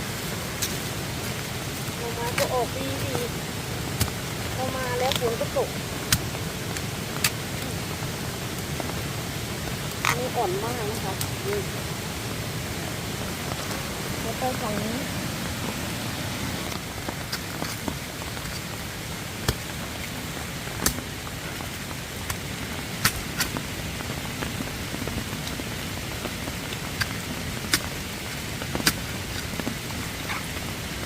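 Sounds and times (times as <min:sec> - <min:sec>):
raindrops ticking close by: 0:00.0 - 0:31.0
steady rain falling: 0:00.0 - 0:31.0.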